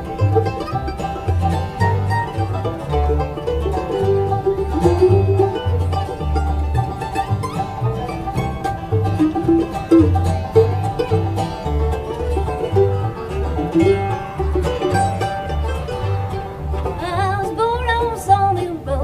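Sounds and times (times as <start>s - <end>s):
banjo picking: 0.0s - 19.0s
guitar: 0.0s - 19.0s
melodic line with vibrato: 0.0s - 19.0s
upright bass: 0.0s - 19.0s.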